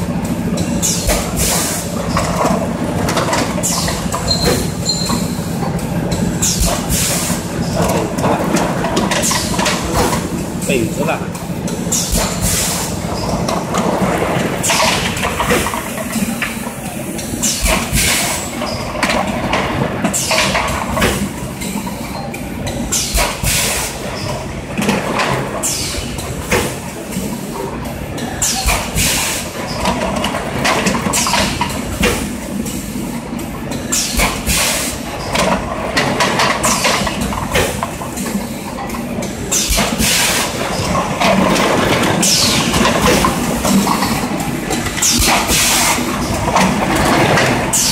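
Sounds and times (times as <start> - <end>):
machine hum and clatter: 0.0 - 47.9.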